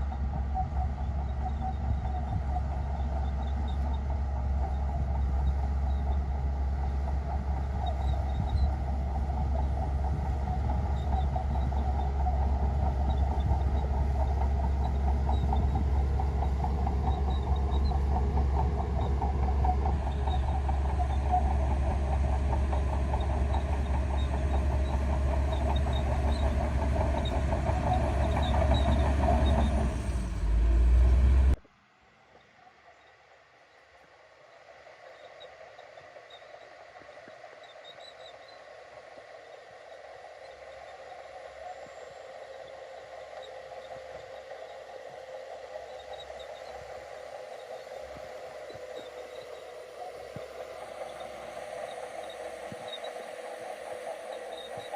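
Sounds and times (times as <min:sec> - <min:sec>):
bulldozer diesel engine running: 0:00.0 - 0:31.6, 0:40.0 - 0:54.9.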